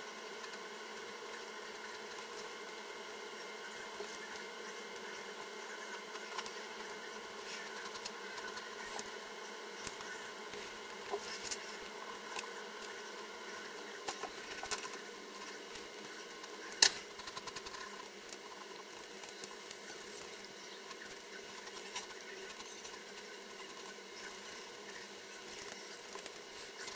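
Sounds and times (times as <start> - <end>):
steady hum: 0.0 - 26.9.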